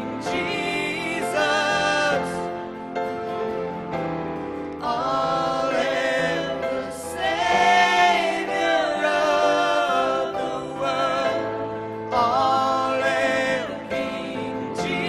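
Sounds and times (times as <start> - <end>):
acoustic guitar: 0.0 - 15.0
keyboard: 0.0 - 15.0
voices singing held notes: 0.0 - 15.0.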